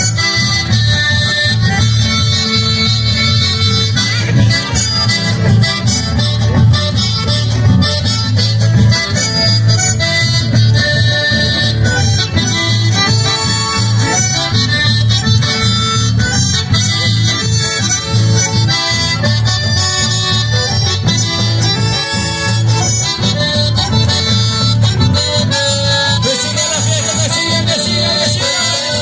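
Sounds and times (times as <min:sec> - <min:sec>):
accordion melody: 0:00.0 - 0:29.0
pulsing bass beat: 0:00.0 - 0:29.0
strummed acoustic guitar: 0:00.0 - 0:29.0.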